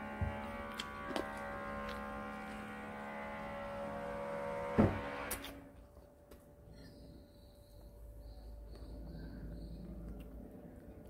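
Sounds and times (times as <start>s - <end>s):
steady tonal hum: 0.0s - 11.0s.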